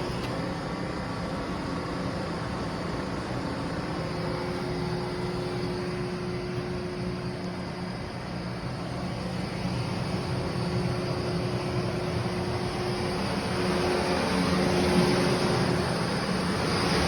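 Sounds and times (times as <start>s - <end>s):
faint steady whine: 0.0s - 17.0s
lathe mechanical hum: 0.0s - 17.0s.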